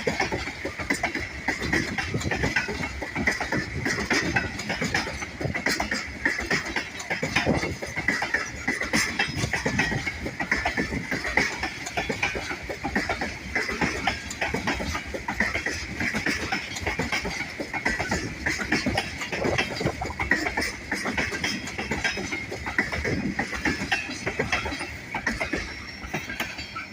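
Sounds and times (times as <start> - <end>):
train cars rolling past: 0.0 - 26.9
wheels clicking on rails: 0.0 - 26.9.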